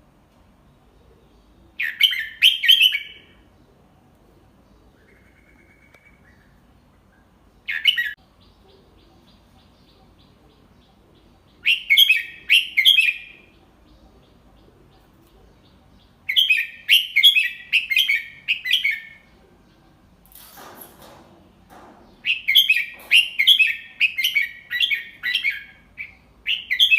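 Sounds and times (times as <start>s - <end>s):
bulbul chirping song: 0.8s - 3.8s, 4.5s - 20.2s, 22.1s - 26.9s.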